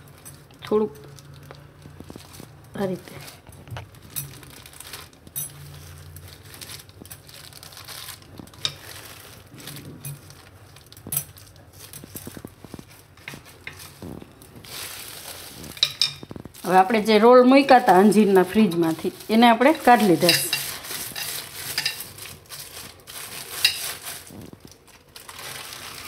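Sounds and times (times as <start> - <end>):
plastic sheet crinkling: 0.0 - 26.0.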